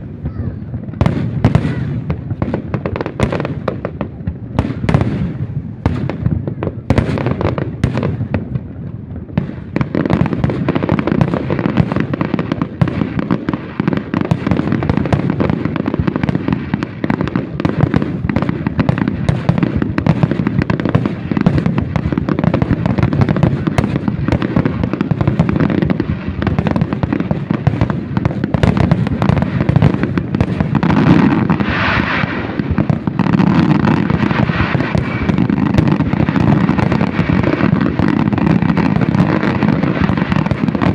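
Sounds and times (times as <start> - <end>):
fireworks bangs: 0.0 - 40.9.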